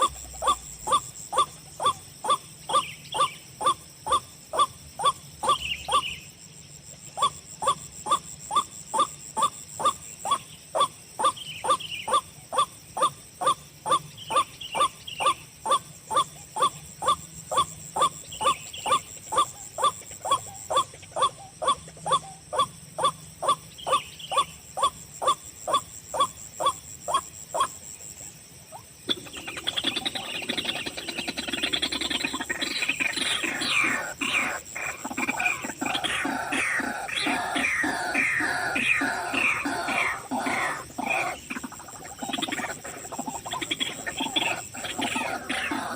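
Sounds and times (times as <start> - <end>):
bird giving harsh calls: 7.2 - 27.7, 29.1 - 45.9.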